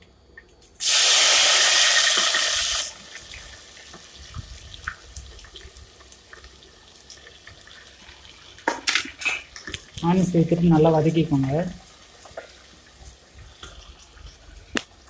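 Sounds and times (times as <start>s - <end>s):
onions sizzling in hot oil: 0.8s - 15.0s.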